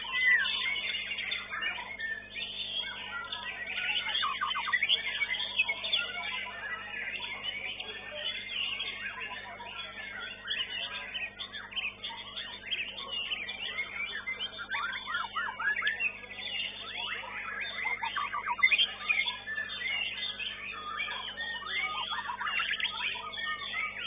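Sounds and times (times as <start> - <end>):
birds singing: 0.0 - 24.0.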